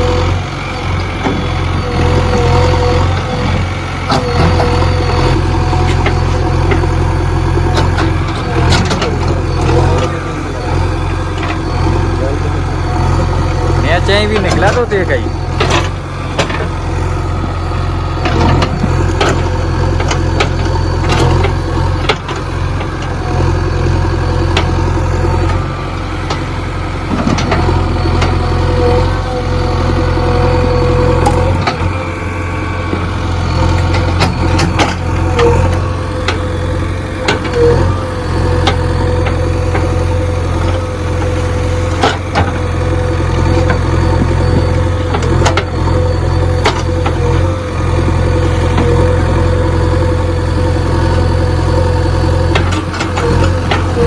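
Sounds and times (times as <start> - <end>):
engine knocks: 0.0 - 47.8
diesel engine running: 0.0 - 54.0
steady whine: 0.0 - 54.0.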